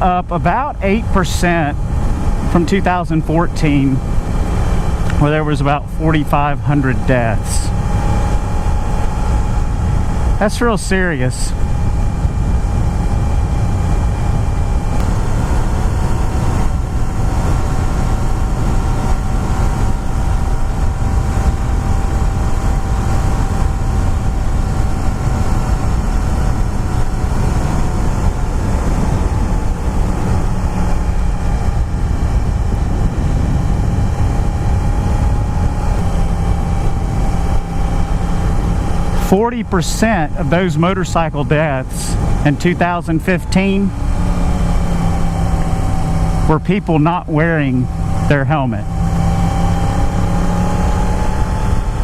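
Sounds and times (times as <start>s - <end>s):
motorcycle engine cruising: 0.0s - 52.0s
wind rush on microphone: 0.0s - 52.0s.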